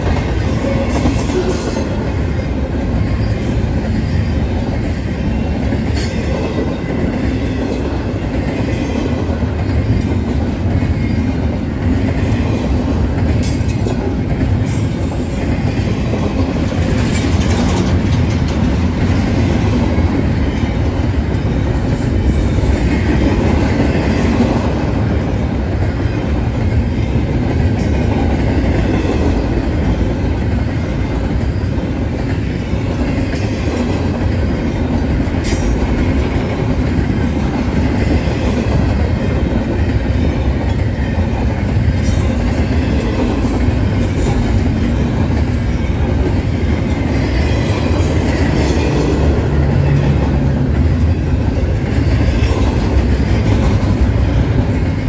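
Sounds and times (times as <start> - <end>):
freight train rolling past: 0.0 - 55.0
wheels clicking over rail joints: 5.8 - 55.0.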